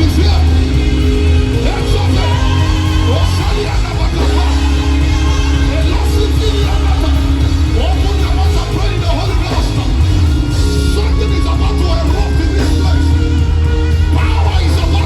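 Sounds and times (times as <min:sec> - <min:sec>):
live worship band music: 0:00.0 - 0:15.0
voices singing and calling out: 0:00.0 - 0:15.0.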